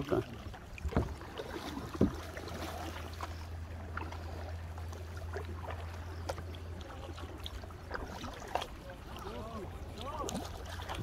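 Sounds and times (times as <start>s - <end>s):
paddle splashing and dripping: 0.0s - 11.0s
steady low hum: 0.2s - 11.0s.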